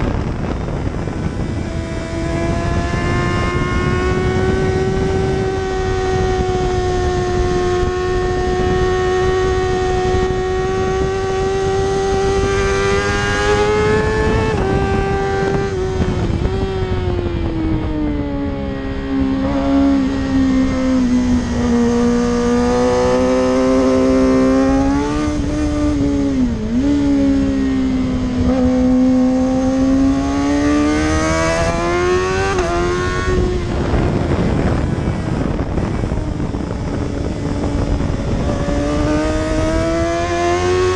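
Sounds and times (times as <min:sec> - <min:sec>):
racing motorcycle engine high revs: 0:00.0 - 0:40.9
steady rushing noise: 0:00.0 - 0:40.9.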